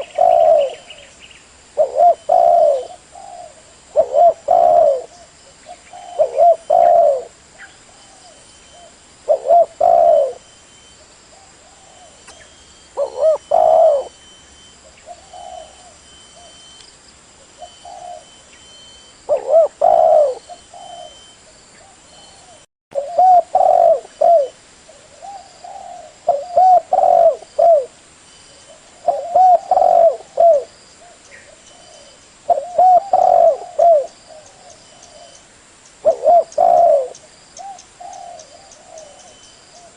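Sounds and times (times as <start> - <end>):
dove cooing: 0.0 - 1.1, 1.8 - 16.7, 17.4 - 35.4, 36.0 - 39.9.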